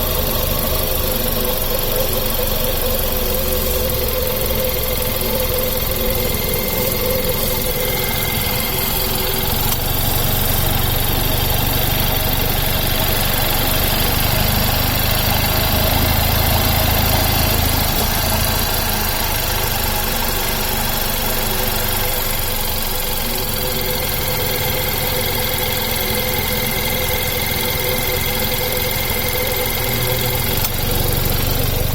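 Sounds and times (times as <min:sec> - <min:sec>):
car engine idling: 0:00.0 - 0:31.9
drive belt squeaking: 0:00.0 - 0:31.9.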